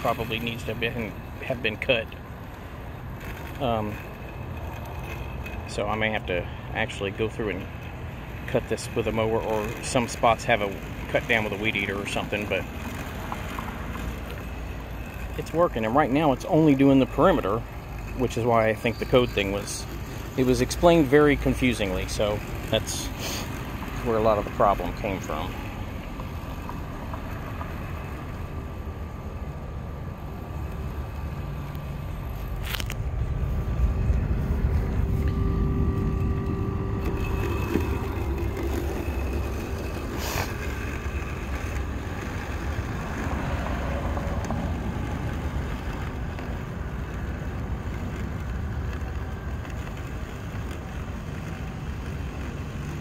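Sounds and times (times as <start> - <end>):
robotic lawn mower running: 0.0 - 53.0.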